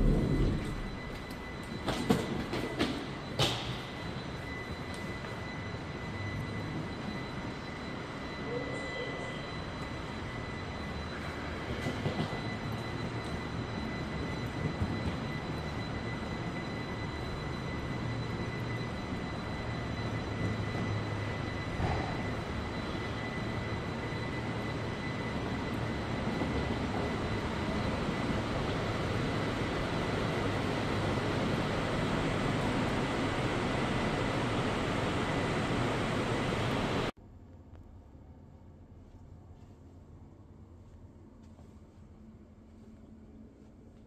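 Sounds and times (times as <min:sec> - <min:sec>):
high-pitched whine: 0:00.0 - 0:37.2
mechanical hum: 0:00.0 - 0:44.0.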